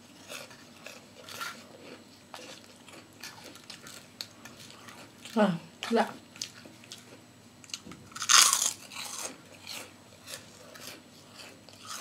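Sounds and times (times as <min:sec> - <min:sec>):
crunchy cracker crunching: 0:00.2 - 0:05.4, 0:06.4 - 0:12.0.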